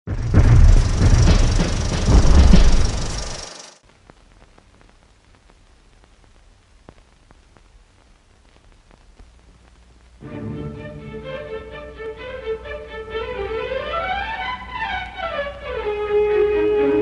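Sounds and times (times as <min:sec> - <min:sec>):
film soundtrack surface noise: 0:00.1 - 0:17.0.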